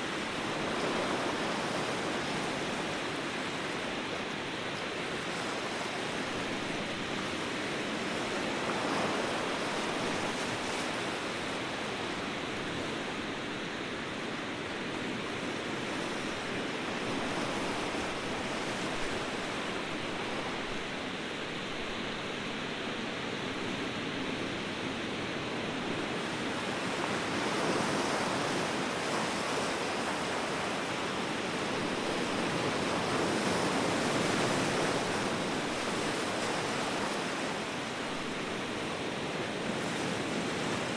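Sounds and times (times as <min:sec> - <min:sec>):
ocean waves washing on shore: 0:00.0 - 0:40.9.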